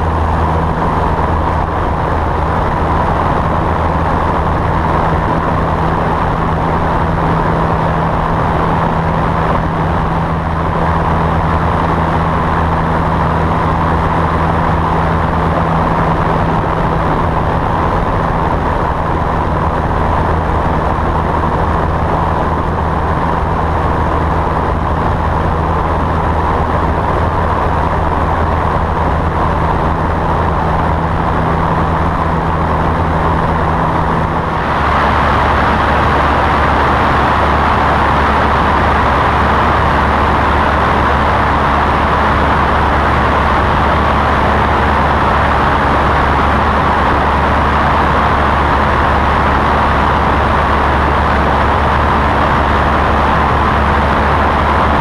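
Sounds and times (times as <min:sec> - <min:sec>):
propeller engine droning: 0:00.0 - 0:55.0
rushing airflow on microphone: 0:00.0 - 0:55.0.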